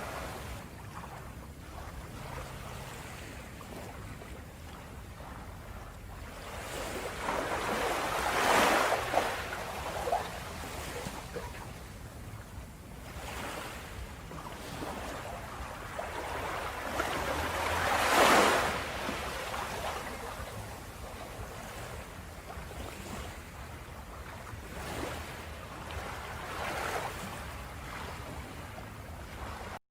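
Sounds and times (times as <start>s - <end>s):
ocean waves breaking on beach: 0.0s - 29.8s.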